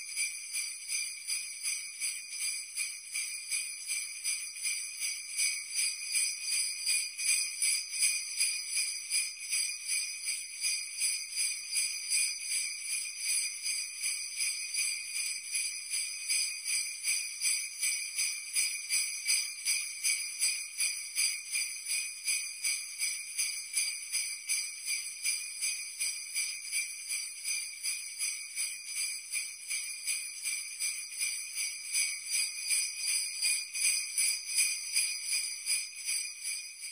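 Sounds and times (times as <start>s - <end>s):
sleigh bells jingling: 0.0s - 36.9s.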